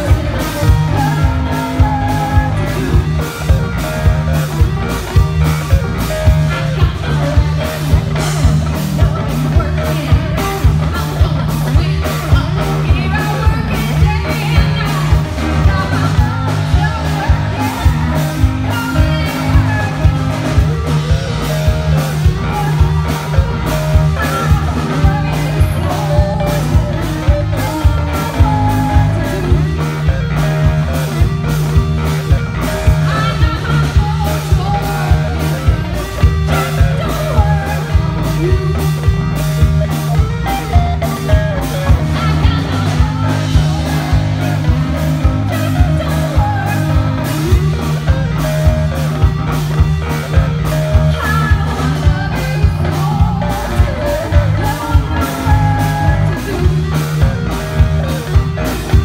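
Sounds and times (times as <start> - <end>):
woman singing: 0.0 - 4.7, 5.6 - 31.6, 32.2 - 59.0
live rock band playing: 0.0 - 59.0.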